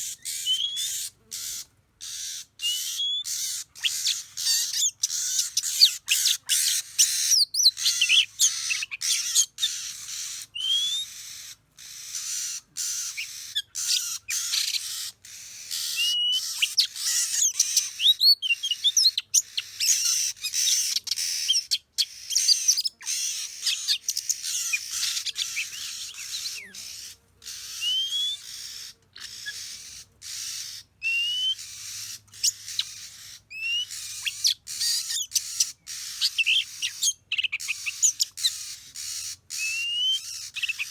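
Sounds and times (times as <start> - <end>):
bird song with whistled phrases: 0.0 - 40.9.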